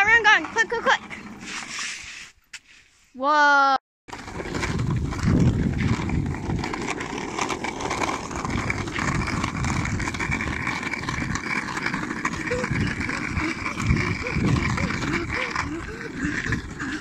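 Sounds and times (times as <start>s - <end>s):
plastic wheels rolling on tarmac: 0.0s - 2.3s, 4.1s - 17.0s.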